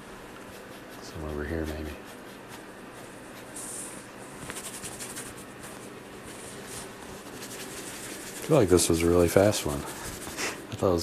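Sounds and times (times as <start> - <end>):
paper towel rubbing brush: 0.0 - 11.0
paintbrush strokes on canvas: 0.3 - 10.6.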